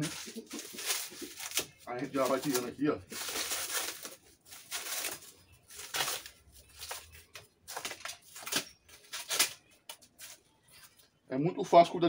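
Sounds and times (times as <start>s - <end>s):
dry leaves rustling and tearing: 0.0s - 10.8s.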